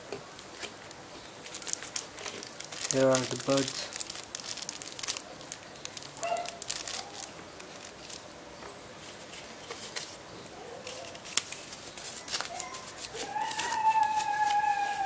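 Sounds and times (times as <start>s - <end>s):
plastic packaging rustling: 0.3s - 8.3s, 10.8s - 15.0s.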